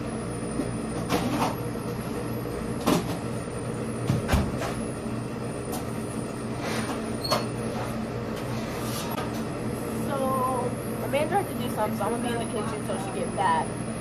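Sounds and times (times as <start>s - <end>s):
kitchen equipment humming: 0.0s - 14.0s.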